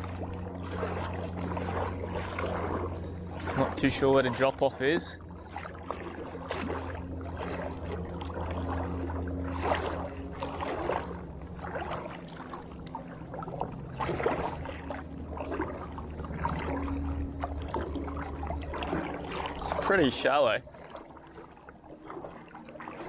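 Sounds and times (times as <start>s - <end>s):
person wading through water: 0.0s - 23.0s
steady low hum: 0.0s - 23.0s.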